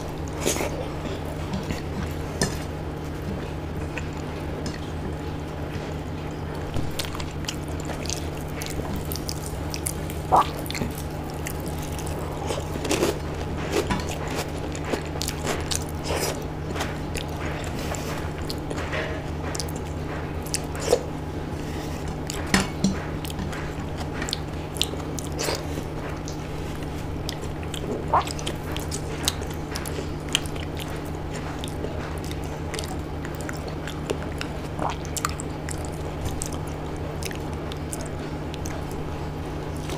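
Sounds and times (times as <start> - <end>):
chewing and mouth smacks: 0.0 - 39.9
low hum: 0.0 - 39.9.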